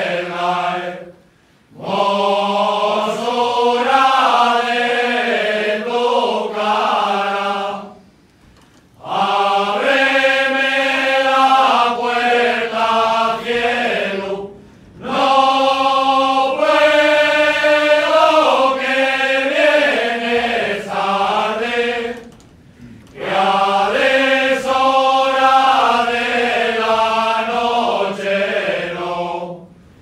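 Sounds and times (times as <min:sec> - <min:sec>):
men's choir singing unaccompanied: 0:00.0 - 0:08.1, 0:09.0 - 0:29.8.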